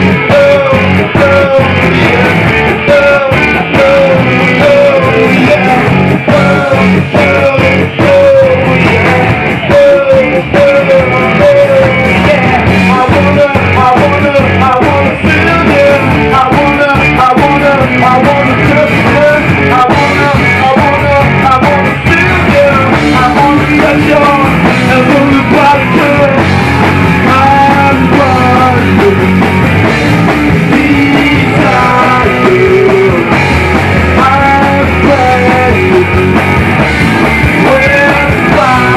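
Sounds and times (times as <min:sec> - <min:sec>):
loud rock music with singing: 0:00.0 - 0:38.9.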